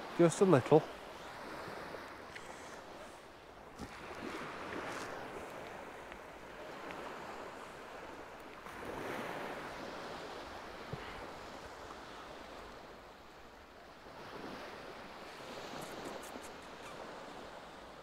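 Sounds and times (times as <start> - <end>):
sea waves washing on shore: 0.0 - 18.0.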